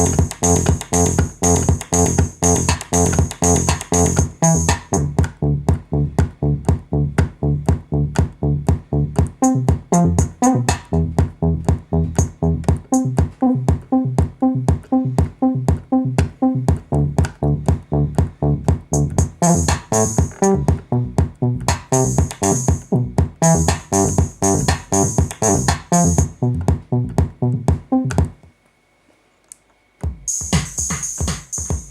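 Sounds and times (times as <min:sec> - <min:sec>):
looping electronic synth pattern: 0:00.0 - 0:28.4.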